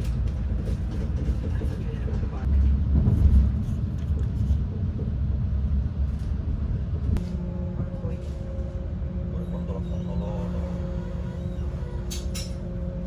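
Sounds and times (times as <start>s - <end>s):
train interior low rumble: 0.0s - 13.0s.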